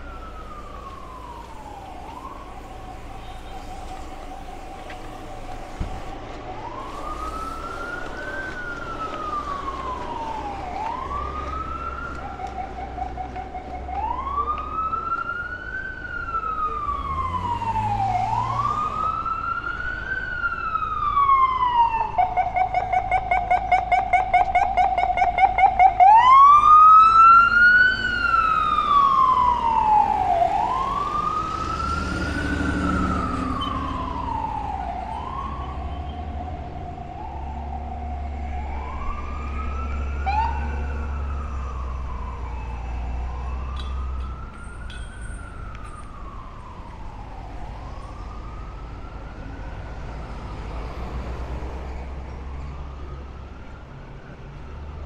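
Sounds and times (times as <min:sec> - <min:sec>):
emergency vehicle siren wailing: 0:00.0 - 0:55.0
street traffic rumble: 0:00.0 - 0:55.0.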